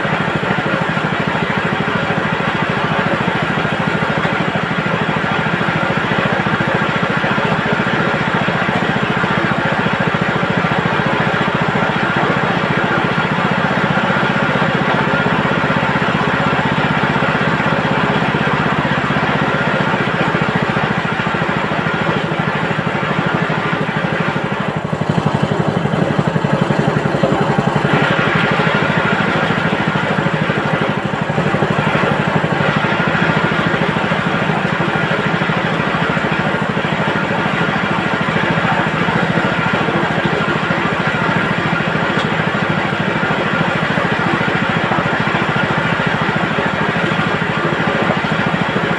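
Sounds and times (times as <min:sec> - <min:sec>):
plucking machine drum spinning: 0:00.0 - 0:48.9.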